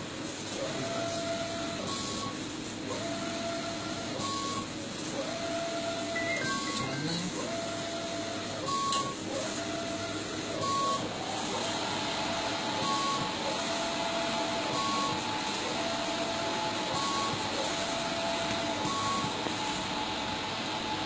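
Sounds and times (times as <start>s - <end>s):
printer carriage whining: 0.6s - 21.0s.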